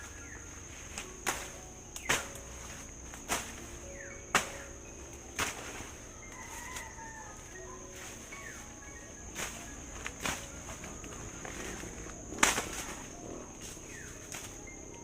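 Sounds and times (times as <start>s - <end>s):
hand tool chopping ground: 0.0s - 14.6s
high insect drone: 0.0s - 15.0s.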